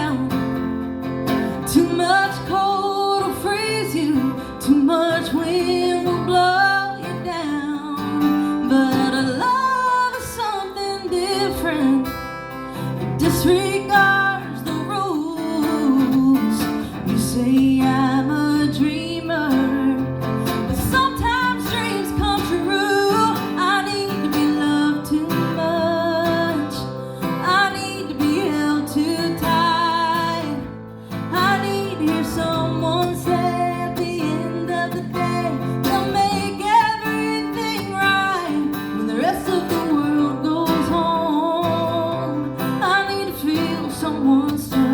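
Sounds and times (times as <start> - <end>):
woman singing with vibrato: 0.0 - 0.5, 1.6 - 44.9
strummed acoustic guitar: 0.0 - 44.9.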